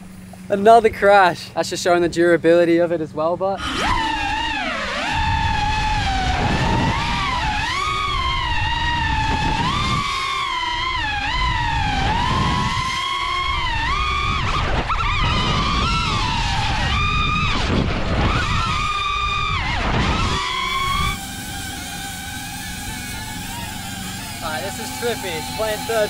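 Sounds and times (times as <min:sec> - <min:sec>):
quadcopter whining: 0:03.3 - 0:26.0.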